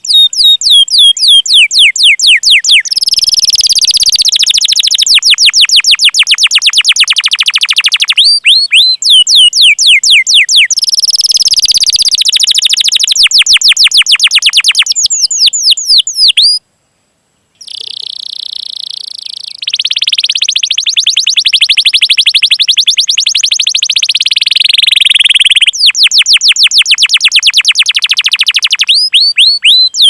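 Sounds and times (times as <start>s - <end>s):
canary singing trills: 0.0s - 16.6s, 17.6s - 30.0s.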